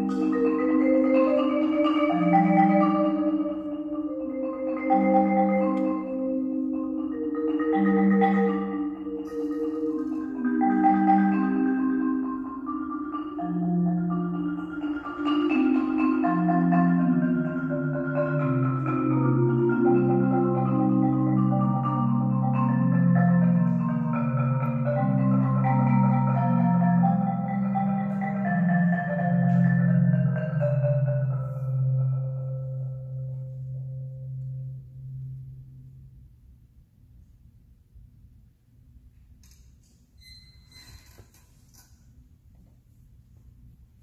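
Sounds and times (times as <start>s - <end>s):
marimba rolls and bass line: 0.0s - 36.1s.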